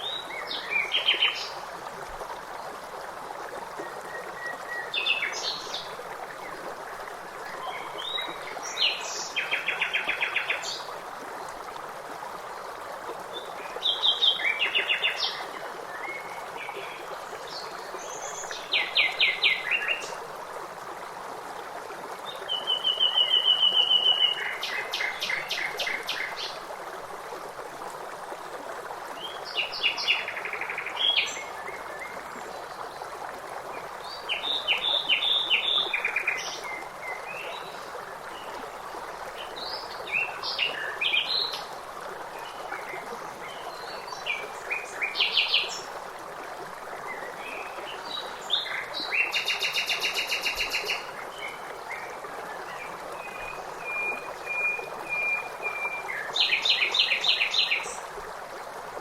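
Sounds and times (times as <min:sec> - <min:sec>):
stream flowing water: 0:00.0 - 0:59.0.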